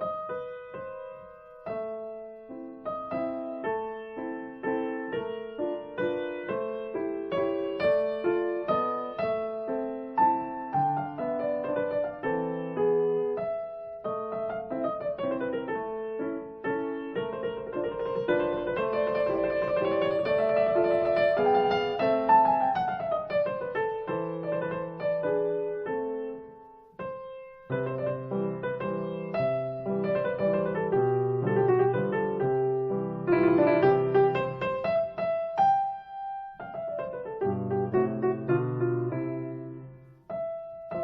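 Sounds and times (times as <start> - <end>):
solo piano music: 0.0 - 41.0.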